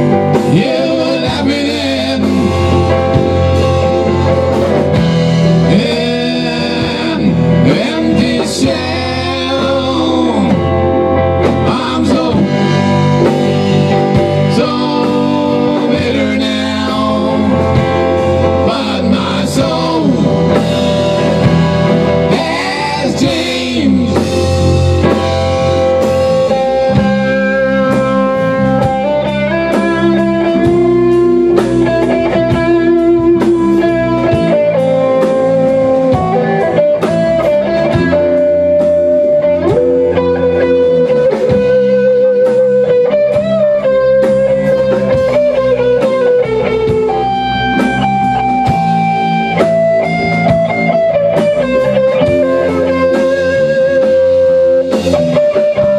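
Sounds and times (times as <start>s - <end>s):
bass guitar: 0.0s - 55.9s
drums: 0.0s - 55.9s
electric guitar lead: 0.0s - 55.9s.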